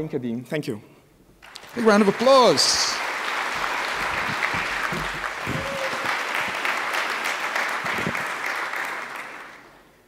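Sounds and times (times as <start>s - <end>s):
audience applauding: 1.4s - 9.9s.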